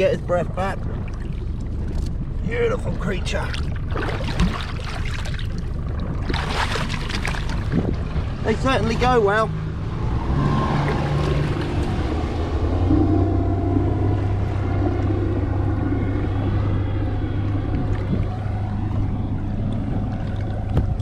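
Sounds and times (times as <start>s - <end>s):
boat engine idling: 0.0s - 10.1s, 10.7s - 21.0s.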